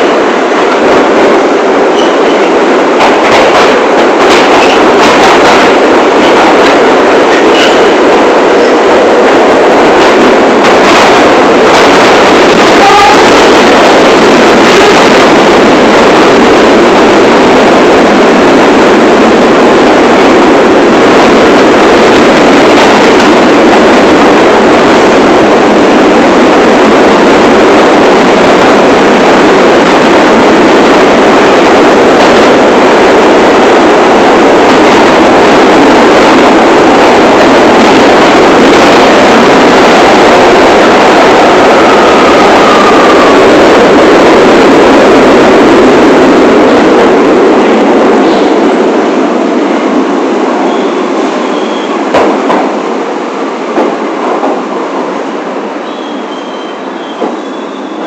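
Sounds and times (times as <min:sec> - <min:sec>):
subway train running: 0:00.0 - 0:58.0.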